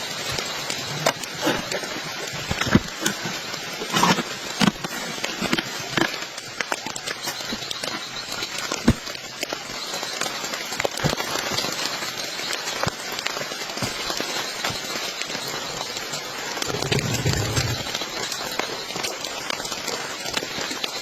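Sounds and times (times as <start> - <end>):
rain falling: 0.0 - 21.0
sharp taps of rain: 0.1 - 21.0.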